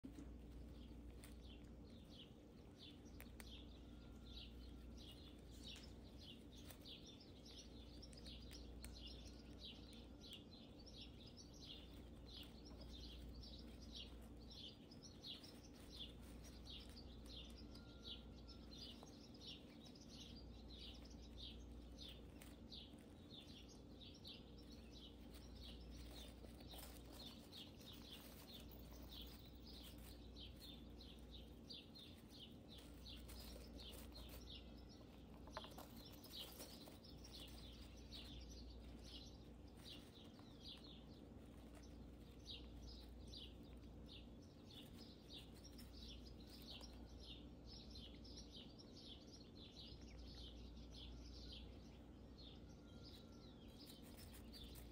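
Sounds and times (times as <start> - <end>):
faint high chirps: 0.0 - 54.9
low steady hum: 0.0 - 54.9.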